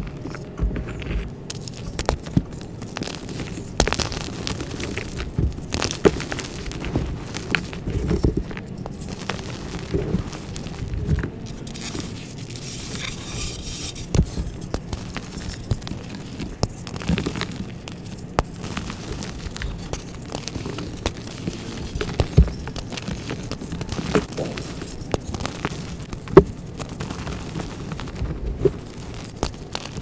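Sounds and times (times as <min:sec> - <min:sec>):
chalk crunching and crumbling: 0:00.0 - 0:30.0
dull thumps: 0:00.0 - 0:30.0
sharp crackles: 0:00.0 - 0:30.0.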